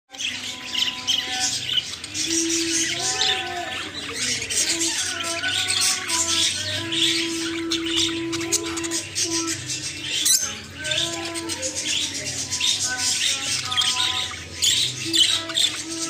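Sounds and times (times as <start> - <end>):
budgerigars chattering and warbling: 0.1 - 16.0.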